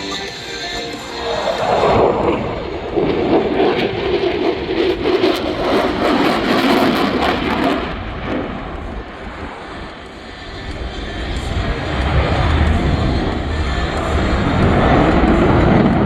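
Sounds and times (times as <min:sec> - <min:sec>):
aircraft engine noise: 0:00.0 - 0:16.0.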